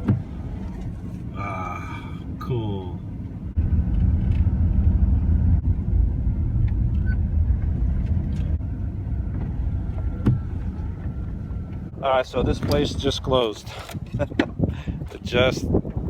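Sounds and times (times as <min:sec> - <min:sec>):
van engine and road rumble: 0:00.0 - 0:16.0.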